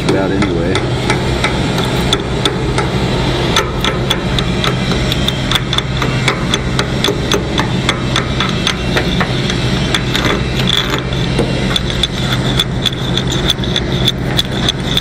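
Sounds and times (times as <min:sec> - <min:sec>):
chipping hammer tapping metal: 0:00.0 - 0:15.0
steady low hum: 0:00.0 - 0:15.0.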